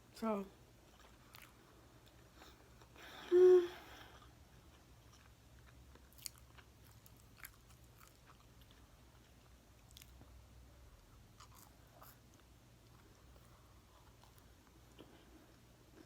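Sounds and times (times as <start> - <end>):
chewing food: 0.8 - 3.0, 4.2 - 10.4, 11.0 - 16.0.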